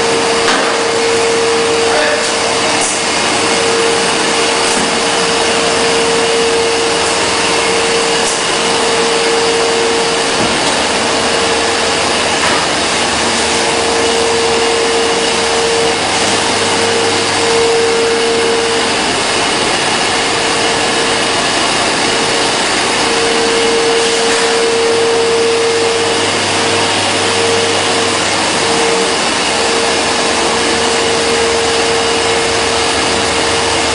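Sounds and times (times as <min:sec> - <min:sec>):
mid-pitched hum: 0:00.0 - 0:33.9
steam rushing hiss: 0:00.8 - 0:33.8.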